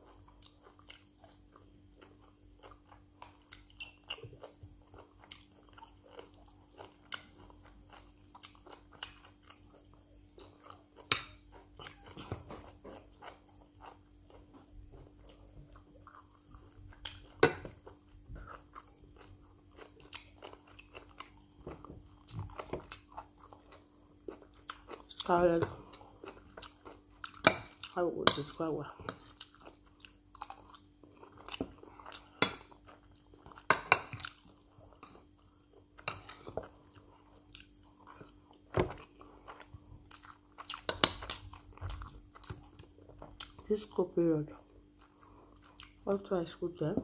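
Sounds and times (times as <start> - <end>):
person chewing food: 0.0 - 46.2
faint steady hum: 0.0 - 47.0.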